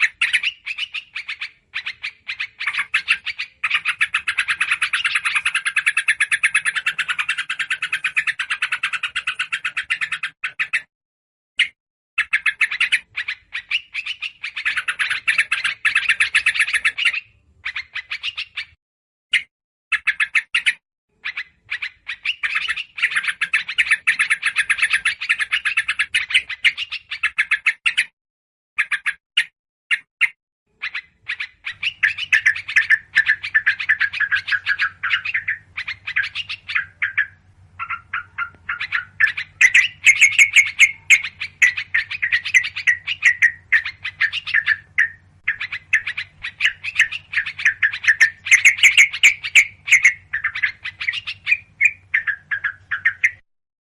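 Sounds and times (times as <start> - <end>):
songbirds chattering: 0.0 - 10.9, 11.6 - 28.1, 30.7 - 53.4.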